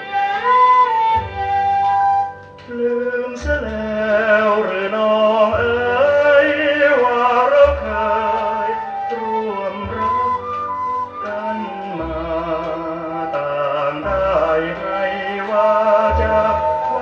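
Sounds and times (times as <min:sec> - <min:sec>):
low bass notes: 0:00.0 - 0:17.0.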